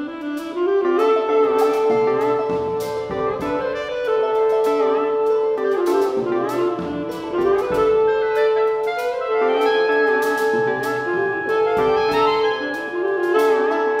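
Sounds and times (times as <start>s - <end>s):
chamber ensemble playing a waltz: 0.0s - 14.0s
long held wind notes: 0.0s - 14.0s
plucked and struck notes: 1.3s - 14.0s.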